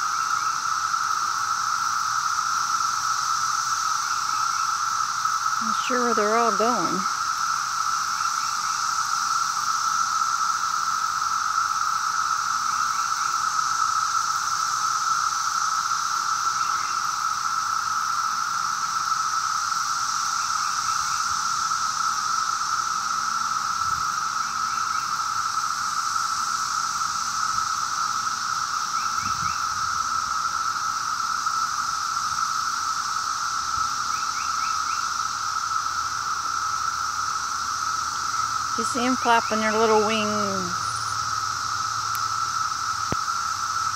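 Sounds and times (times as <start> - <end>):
cicadas droning: 0.0 - 43.9.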